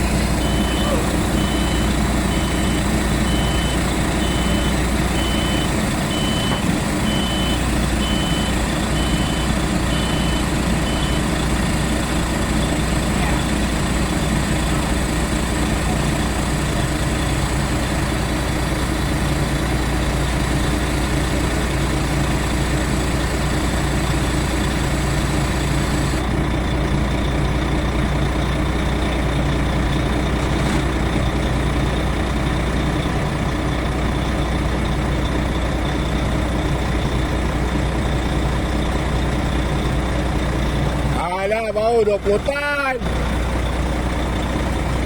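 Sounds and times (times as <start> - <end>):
diesel truck engine droning: 0.0 - 45.0.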